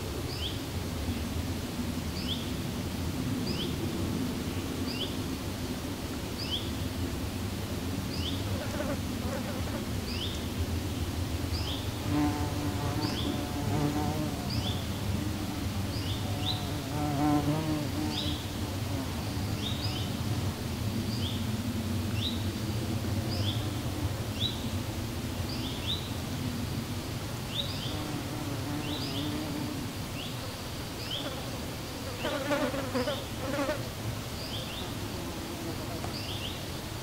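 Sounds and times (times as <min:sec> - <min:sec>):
insect buzzing drone: 0:00.0 - 0:37.0.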